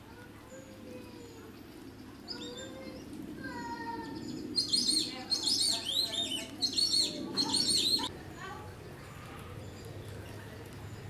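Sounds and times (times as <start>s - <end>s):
birds chirping rapidly: 0.0s - 11.0s
murmur of distant voices: 0.0s - 11.0s.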